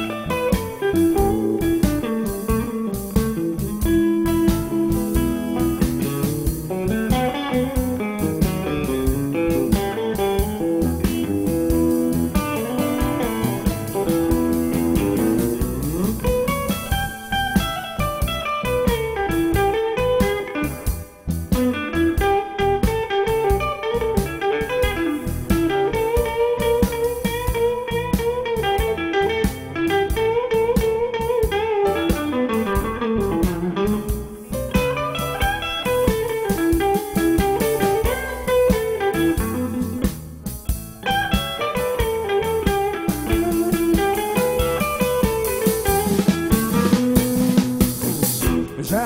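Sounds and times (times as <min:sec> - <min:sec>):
blues band accompaniment: 0:00.0 - 0:49.0
electric guitar solo: 0:00.0 - 0:49.0.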